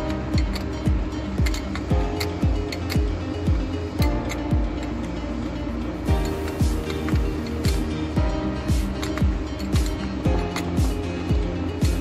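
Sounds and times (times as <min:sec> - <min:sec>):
deep kick drum beat: 0:00.0 - 0:04.8, 0:06.1 - 0:12.0
held synth notes: 0:00.0 - 0:12.0.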